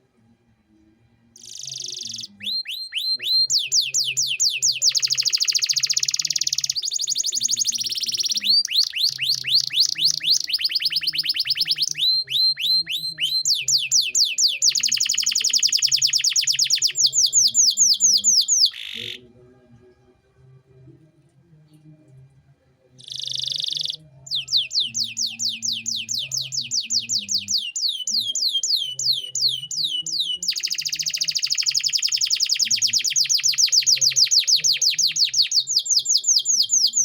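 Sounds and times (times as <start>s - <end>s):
canary singing: 1.4s - 19.3s, 23.0s - 37.0s.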